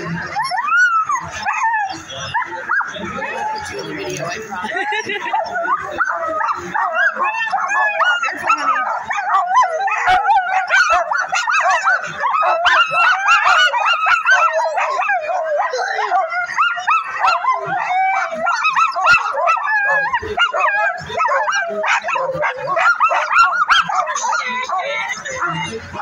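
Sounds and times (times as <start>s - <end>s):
dogs barking and yelping: 0.0s - 26.0s.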